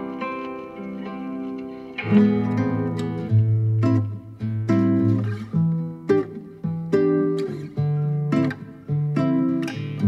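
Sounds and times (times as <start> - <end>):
plucked guitar music: 0.0 - 10.0.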